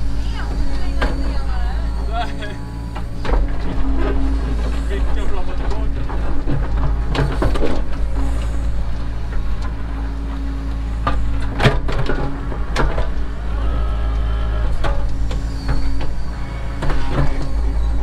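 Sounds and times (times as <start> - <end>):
excavator diesel engine humming: 0.0 - 18.0
hydraulic whine: 0.0 - 18.0.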